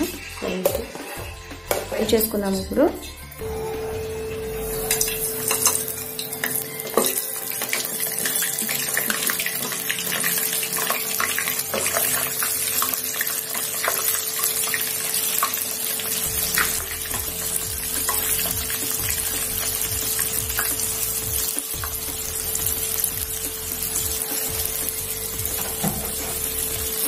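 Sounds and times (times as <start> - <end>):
oil sizzling and crackling: 3.3 - 27.0.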